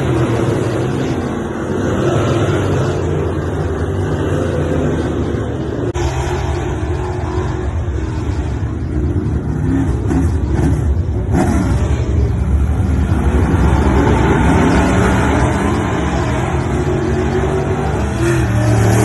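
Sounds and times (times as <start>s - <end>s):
race car engines accelerating: 0.0s - 19.0s.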